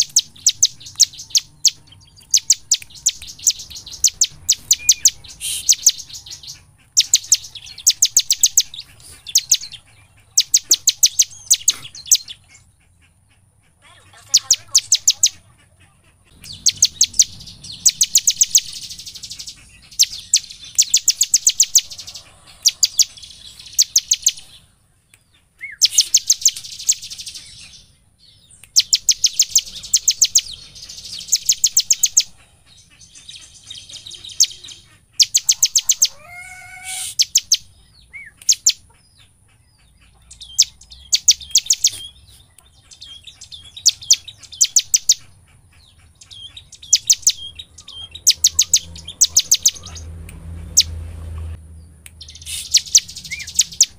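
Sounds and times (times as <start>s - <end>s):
bird singing sharp chipping notes: 0.0s - 12.7s, 14.3s - 15.4s, 16.3s - 36.2s, 36.9s - 51.0s, 51.7s - 53.9s.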